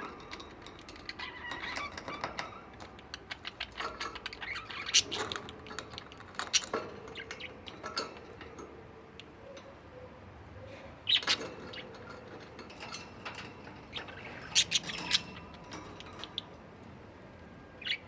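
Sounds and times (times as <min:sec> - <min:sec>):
budgies chirping: 0:00.0 - 0:16.8, 0:17.7 - 0:18.0.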